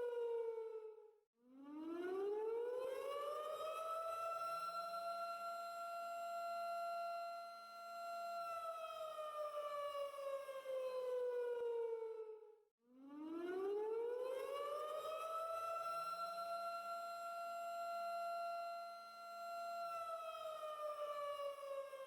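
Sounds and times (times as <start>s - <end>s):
civil defense siren: 0.0s - 22.0s.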